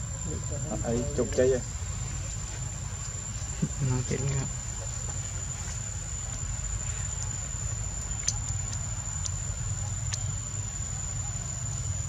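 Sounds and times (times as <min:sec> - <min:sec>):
high-pitched insect whine: 0:00.0 - 0:12.0.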